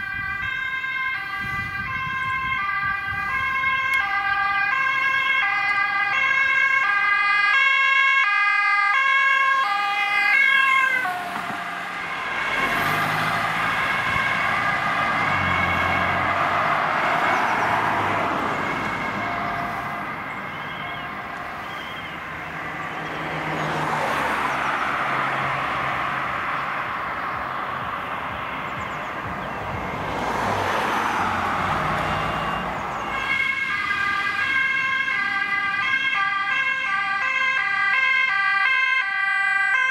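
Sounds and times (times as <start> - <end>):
ambulance two-tone siren: 0.0 - 39.9
passing traffic rushing: 0.0 - 39.9.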